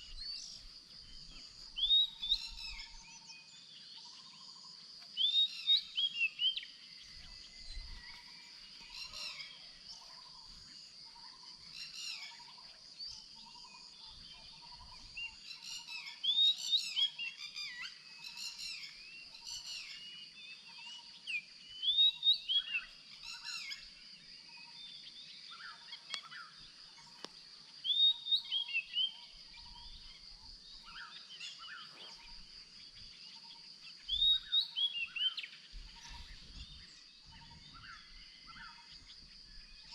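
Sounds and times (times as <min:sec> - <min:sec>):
birds chirping: 0:00.0 - 0:24.0, 0:24.6 - 0:39.9.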